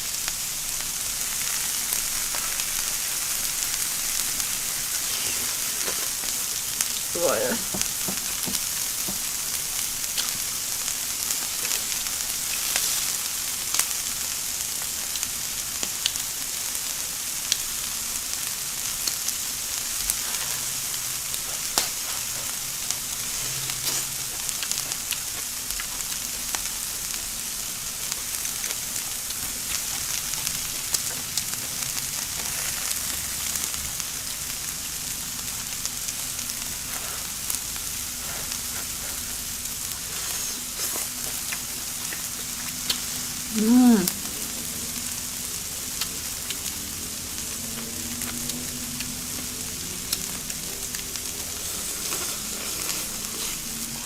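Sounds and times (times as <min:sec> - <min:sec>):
food sizzling in oil: 0:00.0 - 0:54.0.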